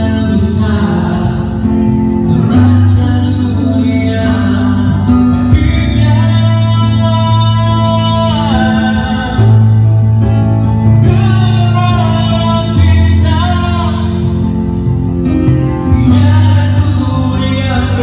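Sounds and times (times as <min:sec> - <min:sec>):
bass notes: 0:00.0 - 0:18.0
live band playing: 0:00.0 - 0:18.0
person singing: 0:00.0 - 0:18.0.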